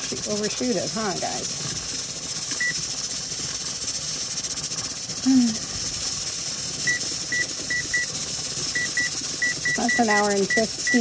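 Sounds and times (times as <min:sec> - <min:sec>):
steam hissing from pressure canner: 0:00.0 - 0:11.0.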